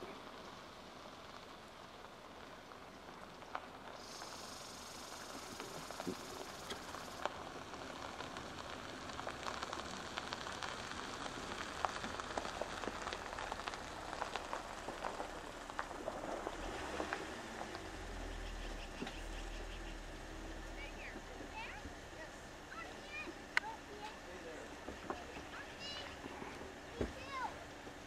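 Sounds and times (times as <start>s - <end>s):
light rain pattering on water: 0.0s - 28.0s.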